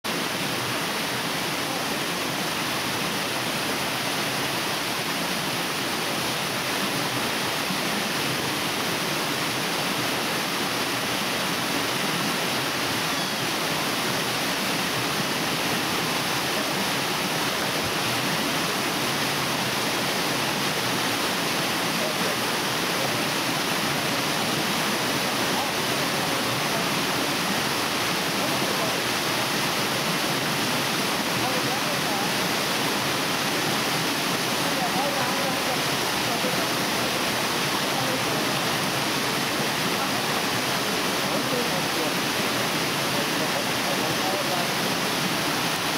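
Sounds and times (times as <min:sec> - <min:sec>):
waterfall rushing into pool: 0:00.0 - 0:45.9.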